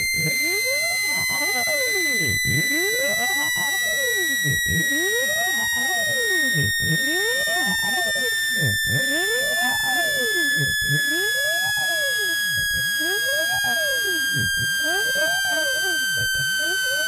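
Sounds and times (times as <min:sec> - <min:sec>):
high tone falling in pitch: 0:00.0 - 0:17.0
low tones gliding up and down: 0:00.0 - 0:17.0.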